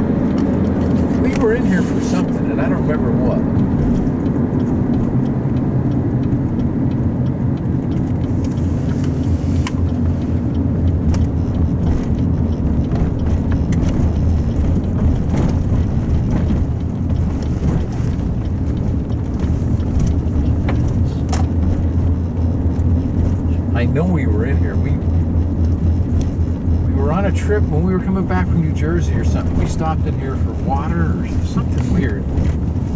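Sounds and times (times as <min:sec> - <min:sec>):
car engine and road rumble: 0:00.0 - 0:32.9.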